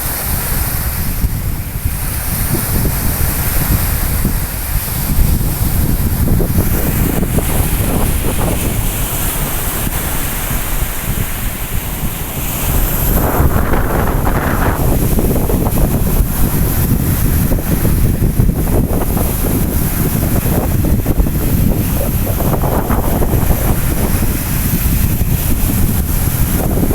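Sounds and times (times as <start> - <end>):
waves washing onto shore: 0.0 - 26.9
wind buffeting microphone: 0.0 - 26.9.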